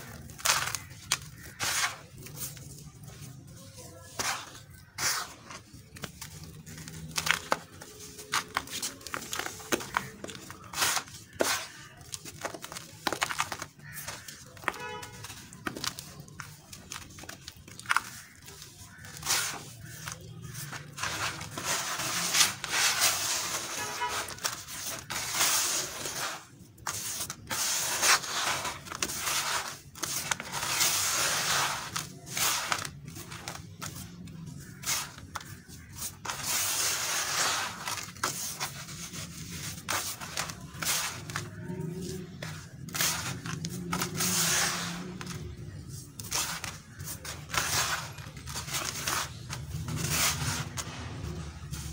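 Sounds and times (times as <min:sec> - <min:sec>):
hands rubbing gritty dirt: 0:00.0 - 0:51.9.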